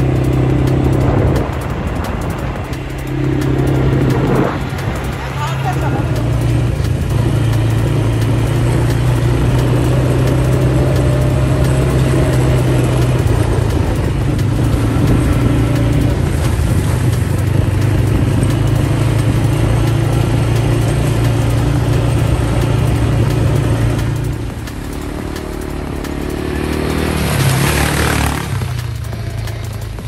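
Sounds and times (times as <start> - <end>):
atv engines running: 0.0 - 30.0.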